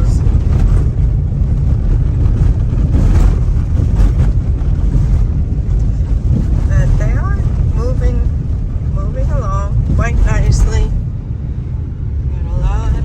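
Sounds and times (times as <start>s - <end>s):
car driving on rough road: 0.0s - 13.0s.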